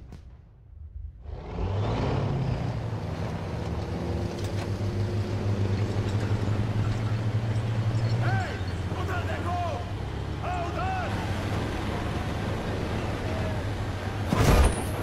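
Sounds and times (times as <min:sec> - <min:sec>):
truck engine running hard: 0:01.3 - 0:15.0.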